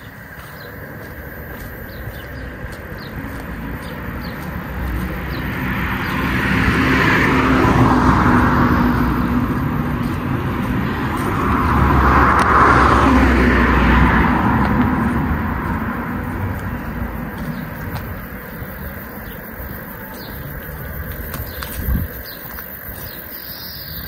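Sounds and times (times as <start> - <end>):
cars passing by: 0.0 - 24.0.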